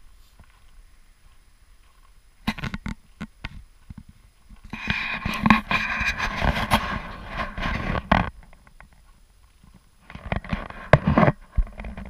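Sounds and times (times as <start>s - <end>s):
footsteps crunching in snow: 0.0s - 11.8s.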